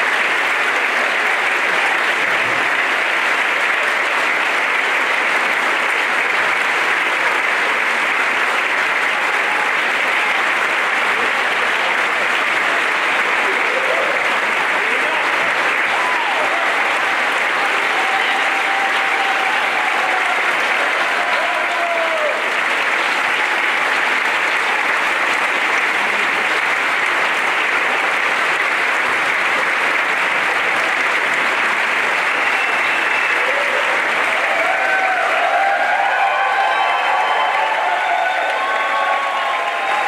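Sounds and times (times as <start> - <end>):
audience applauding: 0.0 - 40.0.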